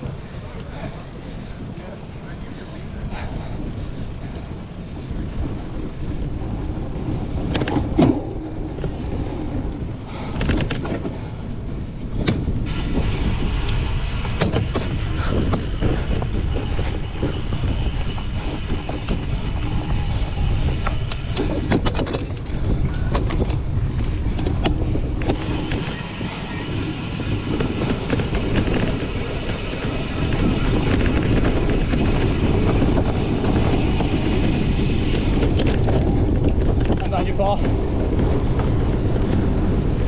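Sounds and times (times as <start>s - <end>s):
tyres rumbling: 0.0s - 40.0s
wind rushing over microphone: 0.0s - 40.0s.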